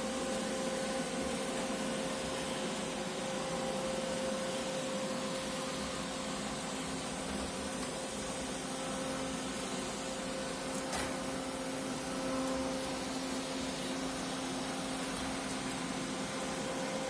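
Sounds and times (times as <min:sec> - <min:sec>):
robot vacuum cleaner humming: 0:00.0 - 0:17.0.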